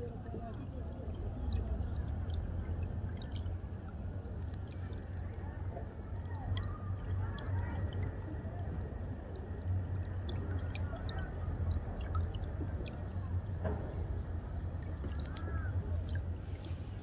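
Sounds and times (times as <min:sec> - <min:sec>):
bubbling and dripping: 0:00.0 - 0:17.0
water flowing and gurgling: 0:00.0 - 0:17.0.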